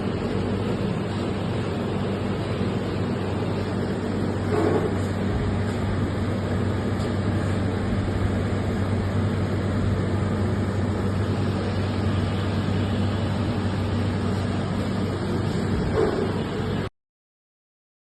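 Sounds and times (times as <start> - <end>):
mechanical machinery noise: 0.0 - 16.9
steady electrical hum: 0.0 - 16.9.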